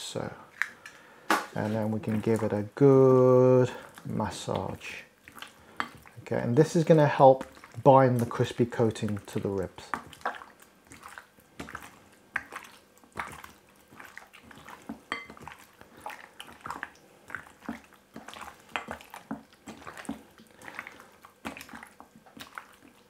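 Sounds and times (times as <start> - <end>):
wet squelching of meat in egg: 1.5 - 23.0.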